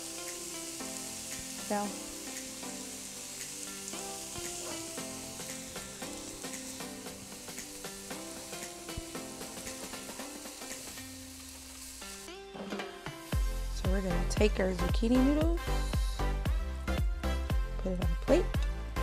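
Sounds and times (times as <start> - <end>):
food sizzling in a pan: 0.0 - 17.5
background music: 0.0 - 19.0.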